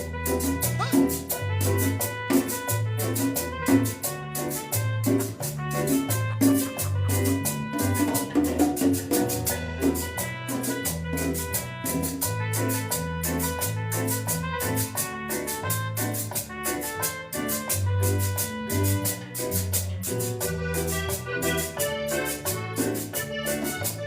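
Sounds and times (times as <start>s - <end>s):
latin dance music: 0.0s - 24.0s.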